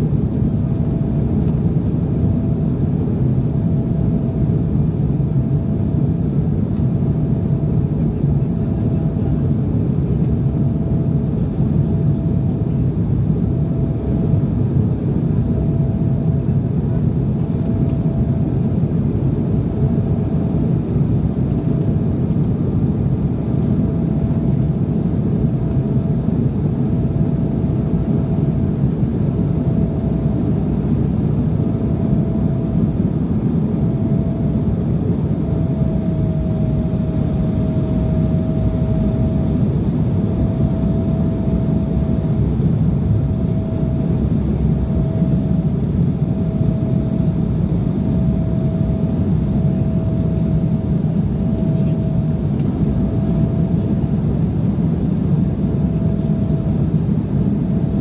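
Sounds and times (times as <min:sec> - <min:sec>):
jet engines and airflow rushing: 0:00.0 - 0:58.0.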